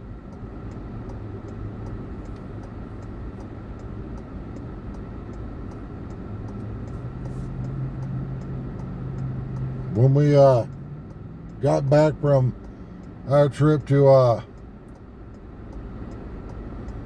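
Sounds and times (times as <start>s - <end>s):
car cabin road rumble: 0.0s - 17.0s
faint regular ticking: 0.0s - 17.0s.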